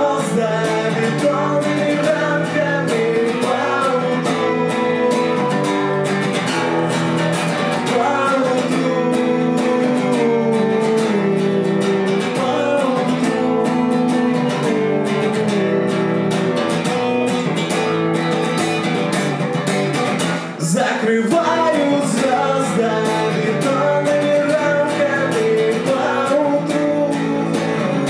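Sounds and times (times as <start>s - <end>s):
acoustic guitar strumming: 0.0s - 28.0s
held melody line: 0.0s - 28.0s.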